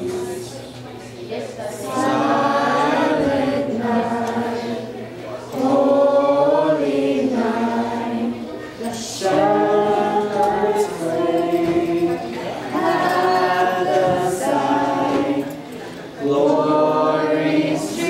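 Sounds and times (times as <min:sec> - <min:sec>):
children singing a carol: 0:00.0 - 0:00.6, 0:01.7 - 0:18.0.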